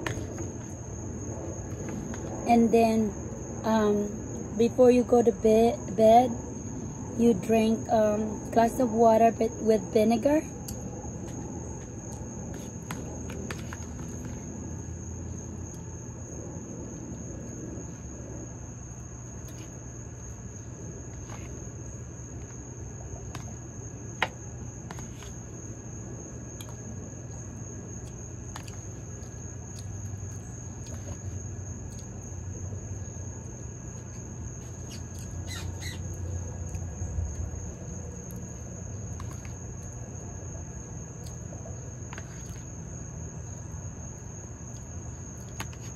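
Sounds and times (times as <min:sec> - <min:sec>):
insects droning: 0:00.0 - 0:45.9.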